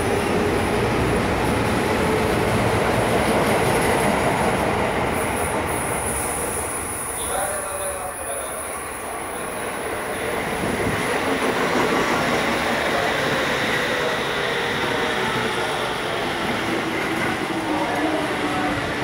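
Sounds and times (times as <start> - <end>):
train rumbling through station: 0.0 - 19.0.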